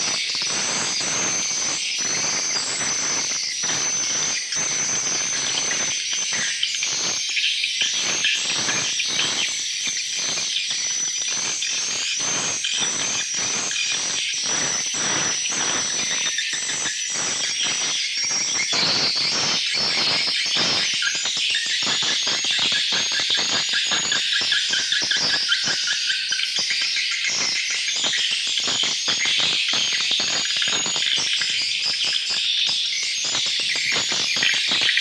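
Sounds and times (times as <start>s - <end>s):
swiftlets twittering: 0.0s - 35.0s.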